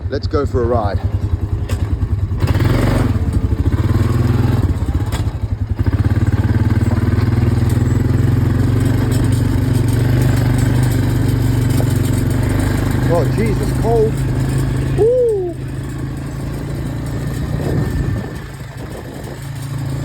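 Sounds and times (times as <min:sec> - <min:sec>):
farm vehicle engine running: 0:00.0 - 0:20.0.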